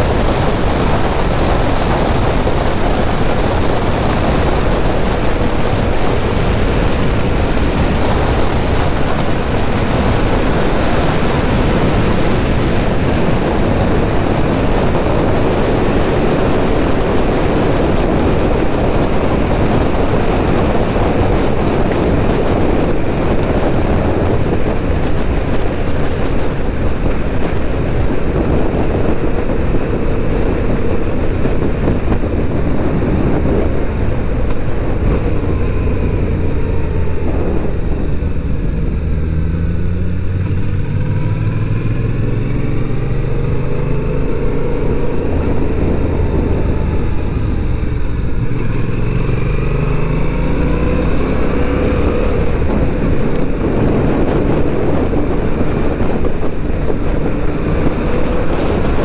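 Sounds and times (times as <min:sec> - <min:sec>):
motorcycle engine: 0:00.0 - 0:59.0
wind rushing over camera: 0:00.0 - 0:59.0.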